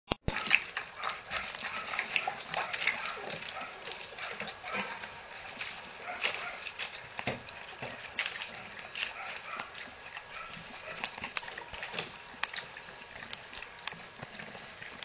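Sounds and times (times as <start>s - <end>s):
puppies lapping milk: 0.1s - 15.0s.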